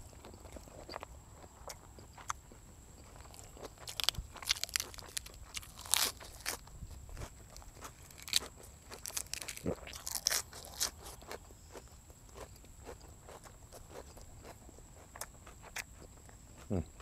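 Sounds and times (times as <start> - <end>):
person chewing crunchy vegetables: 0.0 - 17.0.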